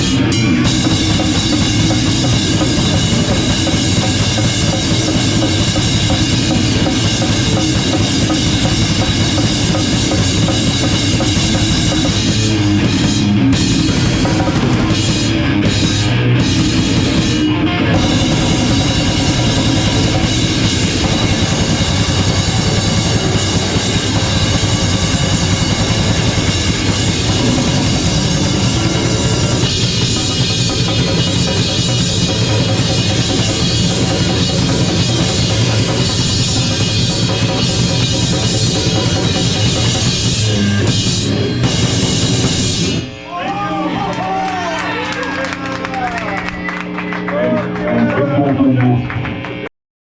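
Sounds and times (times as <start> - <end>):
drum kit and bass drum: 0.0 - 43.1
rock band playing loud: 0.0 - 49.7.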